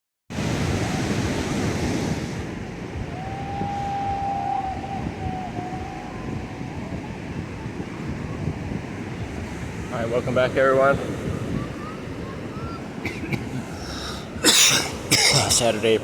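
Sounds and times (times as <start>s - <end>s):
ocean surf washing: 0.3s - 16.0s
wind buffeting microphone: 0.3s - 16.0s.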